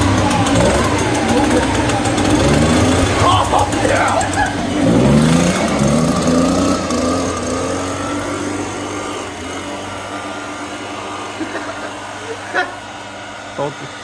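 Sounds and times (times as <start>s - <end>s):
small engine accelerating: 0.0s - 14.0s.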